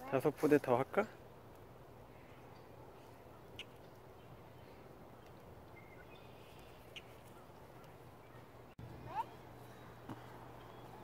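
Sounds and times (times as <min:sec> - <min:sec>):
bird chirping: 0:02.1 - 0:11.0.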